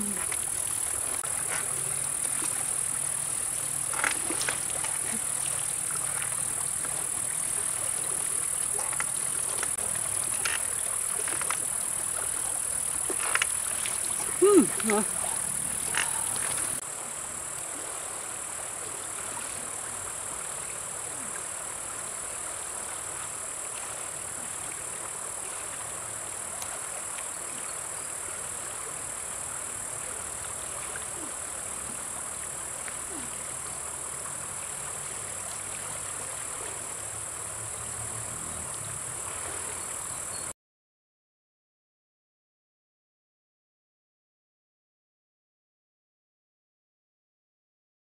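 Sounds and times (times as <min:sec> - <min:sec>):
high insect drone: 0:00.0 - 0:40.5.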